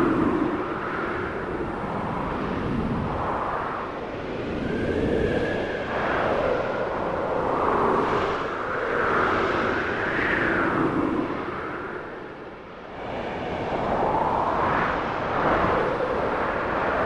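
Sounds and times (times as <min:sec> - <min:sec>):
wind howling and whistling: 0:00.0 - 0:17.0.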